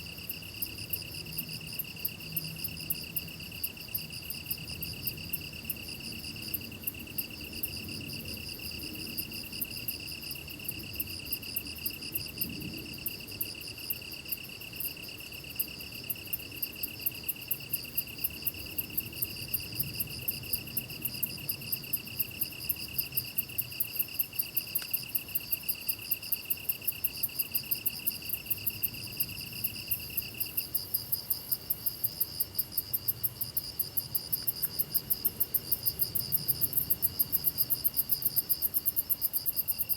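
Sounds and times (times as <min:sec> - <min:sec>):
high pulsing insect chirp: 0:00.0 - 0:39.9
steady insect trill: 0:00.0 - 0:39.9
rapid high insect ticking: 0:00.2 - 0:39.9.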